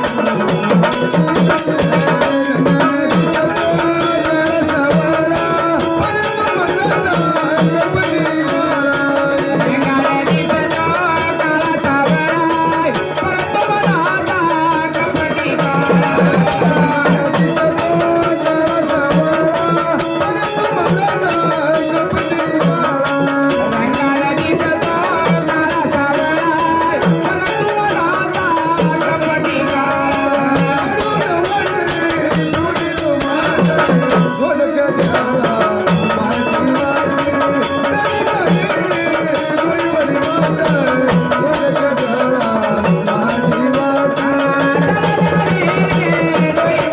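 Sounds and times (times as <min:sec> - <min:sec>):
fast hand drumming: 0:00.0 - 0:34.4, 0:35.0 - 0:46.9.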